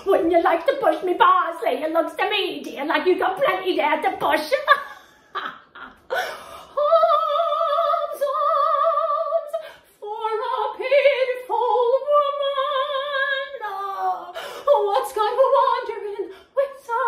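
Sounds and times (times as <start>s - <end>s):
woman singing operatic soprano: 3.2s - 17.0s.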